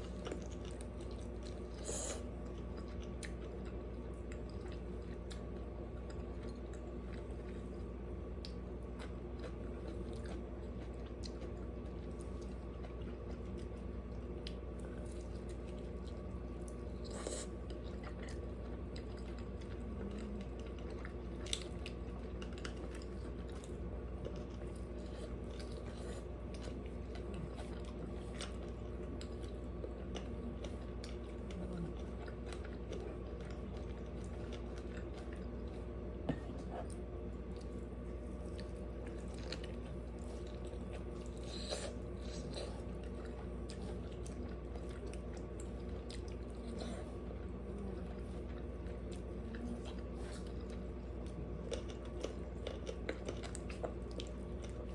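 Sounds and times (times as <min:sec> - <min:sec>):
chewing and crunching food: 0:00.0 - 0:54.9
steady low hum: 0:00.0 - 0:54.9.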